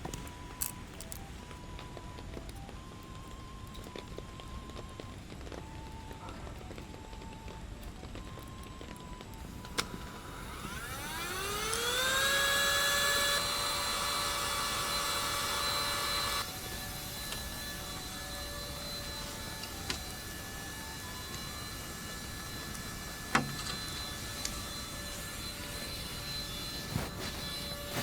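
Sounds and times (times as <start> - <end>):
small electric motor whine: 0.0 - 28.0.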